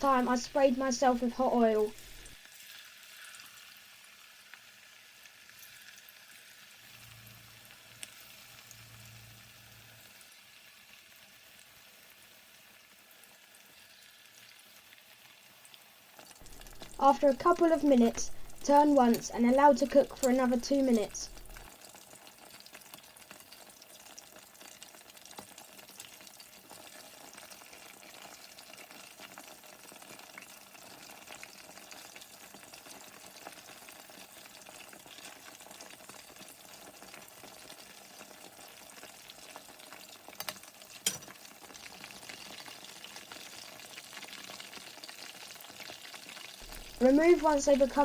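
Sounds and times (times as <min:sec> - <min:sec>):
chicken frying in hot oil: 0:00.0 - 0:48.0.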